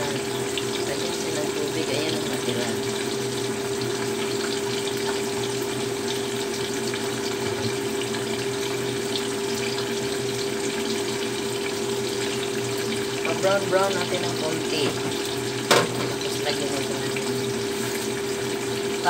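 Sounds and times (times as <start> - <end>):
tofu sizzling in hot oil: 0.0 - 19.0.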